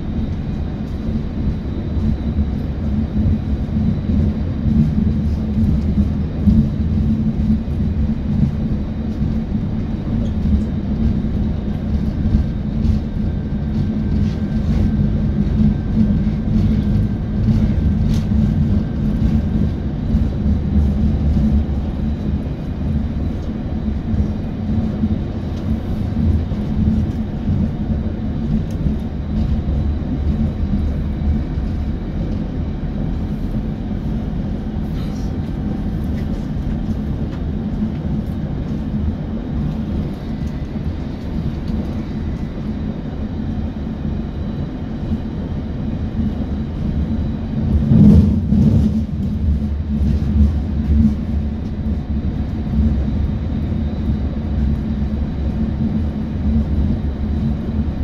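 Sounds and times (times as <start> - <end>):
train wheels rumbling: 0.0 - 57.8.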